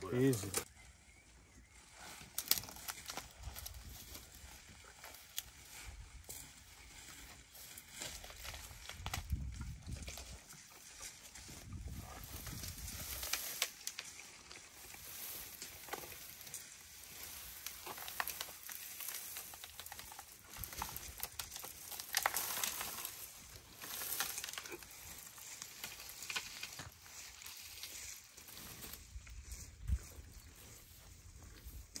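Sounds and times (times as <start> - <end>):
dry branches rustling and crackling: 0.0 - 32.0.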